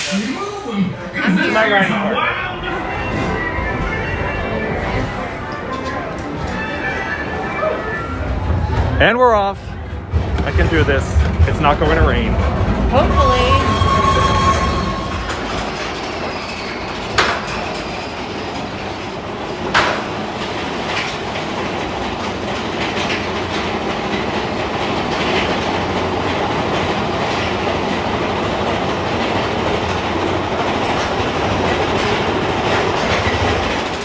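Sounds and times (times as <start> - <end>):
roller coaster wheels rattling: 1.1 - 34.0.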